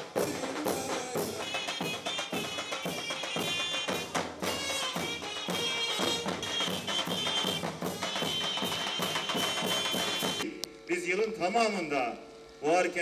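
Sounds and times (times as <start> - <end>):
drum and cymbal beats: 0.0 - 10.5
military band music: 0.0 - 10.5.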